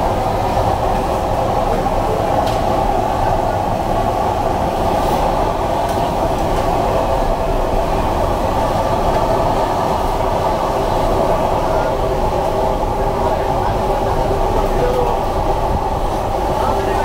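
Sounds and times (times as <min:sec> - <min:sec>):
gas burners roaring: 0:00.0 - 0:17.0.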